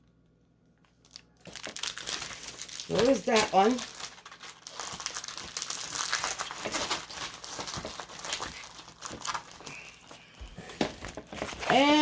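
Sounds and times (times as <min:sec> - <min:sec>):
plastic packaging crinkling: 0:00.9 - 0:12.0.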